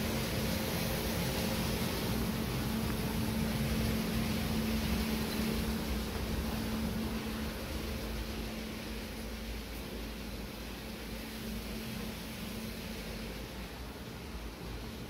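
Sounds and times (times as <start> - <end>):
fan rushing: 0.0 - 15.0
low motor hum: 0.0 - 15.0.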